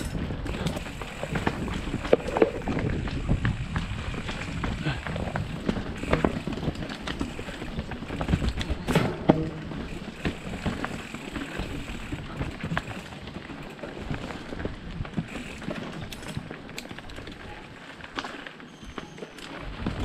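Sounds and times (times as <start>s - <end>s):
bike chain and frame rattling: 0.0s - 20.0s.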